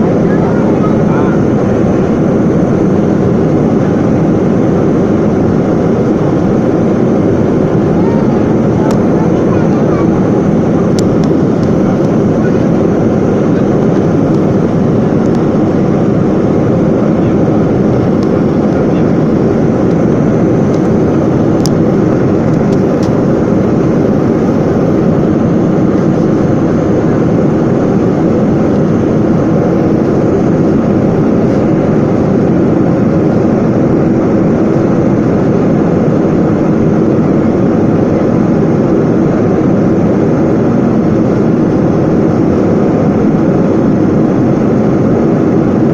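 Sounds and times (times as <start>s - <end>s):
airplane engines at takeoff: 0.0s - 45.9s.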